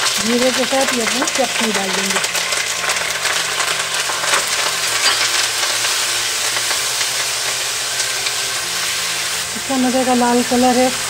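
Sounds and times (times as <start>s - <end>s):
chili paste sizzling in oil: 0.0s - 11.0s.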